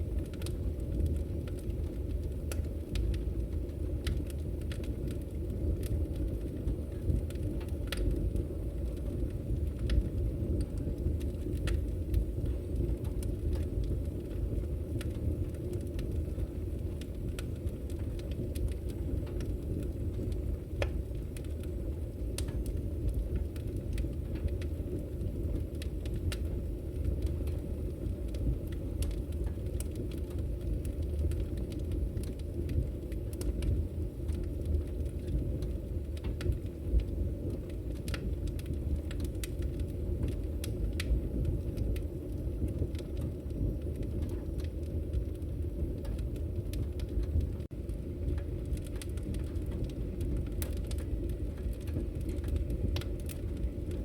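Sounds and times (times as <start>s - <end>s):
fire crackles and pops: 0.0s - 54.0s
low rumble of flames: 0.0s - 54.0s.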